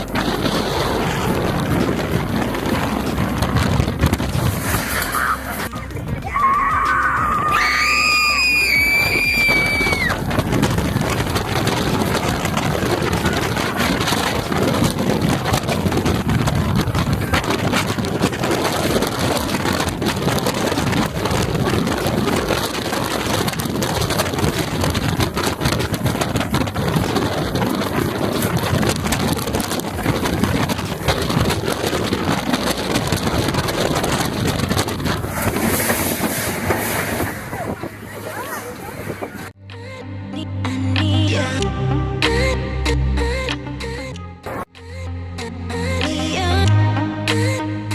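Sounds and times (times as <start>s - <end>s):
roller coaster rumbling on track: 0.0s - 39.6s
wind rushing on microphone: 0.0s - 39.6s.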